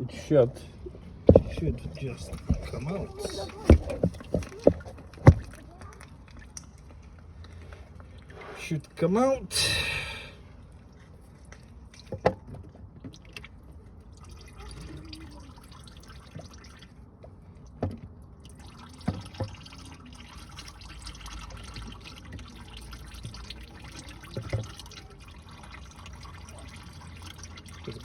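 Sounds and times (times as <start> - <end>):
oil dripping and trickling: 0.0 - 28.0.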